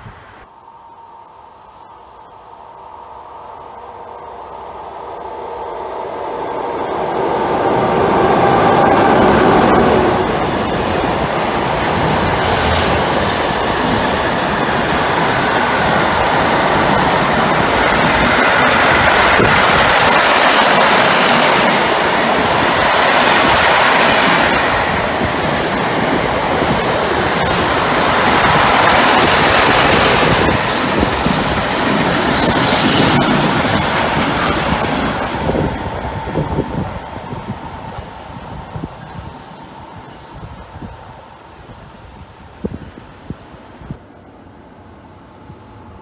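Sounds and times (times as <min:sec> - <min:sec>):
train wheels on rails: 0:01.6 - 0:46.0.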